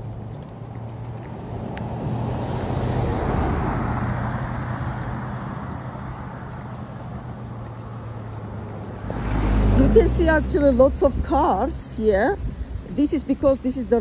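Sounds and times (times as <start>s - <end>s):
car passing by: 0.1s - 14.0s.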